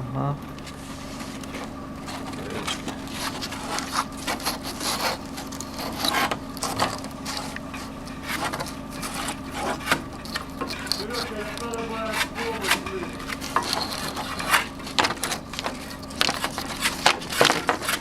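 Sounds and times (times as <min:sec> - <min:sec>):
edging saw humming: 0:00.0 - 0:18.0
wooden boards knocking and scraping: 0:00.6 - 0:18.0.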